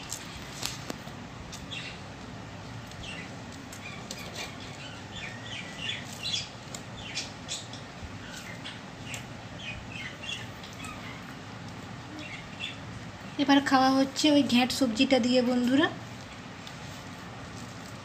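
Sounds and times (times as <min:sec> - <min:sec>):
steady low hum: 0:00.0 - 0:18.0
small birds chirping: 0:01.5 - 0:17.2.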